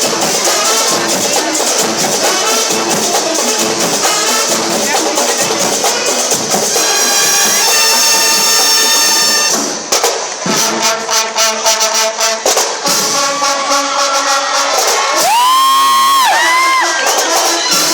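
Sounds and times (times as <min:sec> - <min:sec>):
brass band playing: 0:00.0 - 0:17.9.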